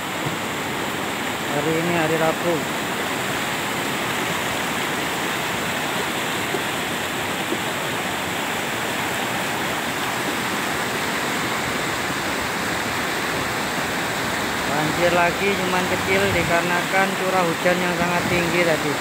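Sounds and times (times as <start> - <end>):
floodwater rushing over boulders: 0.0 - 19.0.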